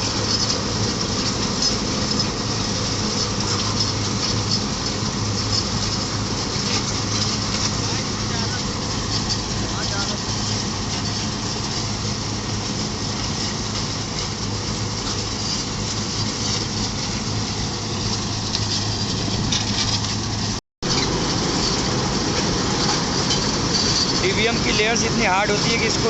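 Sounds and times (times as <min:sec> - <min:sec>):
diesel engine humming: 0:00.0 - 0:26.0
milling drum grinding asphalt: 0:00.0 - 0:26.0.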